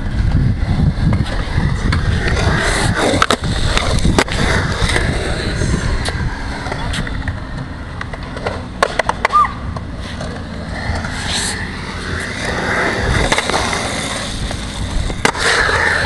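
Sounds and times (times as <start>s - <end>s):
skateboard wheels rolling on concrete: 0.0s - 16.0s
skateboard clacks: 0.2s - 16.0s.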